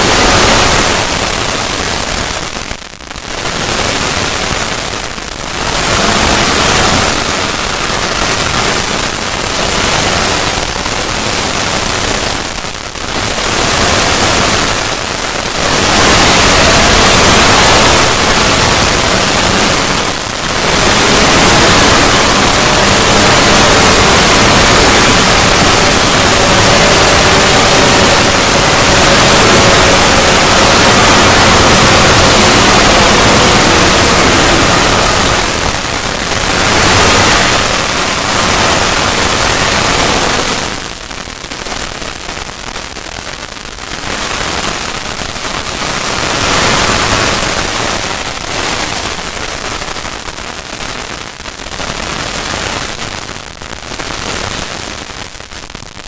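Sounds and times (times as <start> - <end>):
harsh distorted hissing noise: 0.0 - 56.0.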